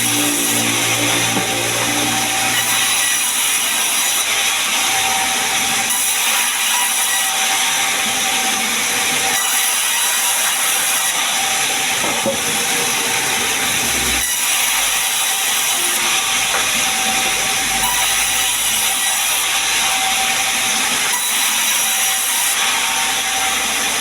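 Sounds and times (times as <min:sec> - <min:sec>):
sawmill saw cutting timber: 0:00.0 - 0:24.0.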